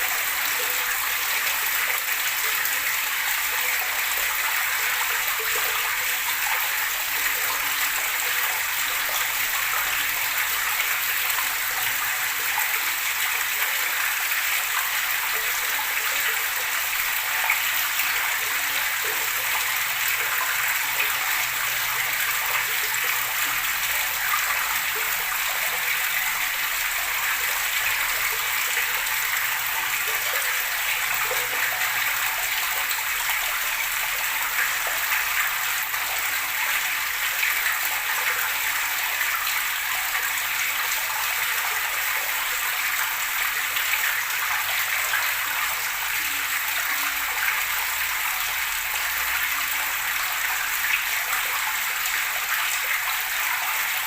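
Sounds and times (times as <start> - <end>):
running water gurgling: 0.0 - 54.0.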